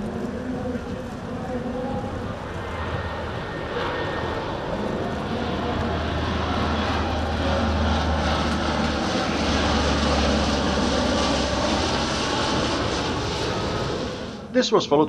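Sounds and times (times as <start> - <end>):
propeller aircraft flying past: 0.0 - 15.0.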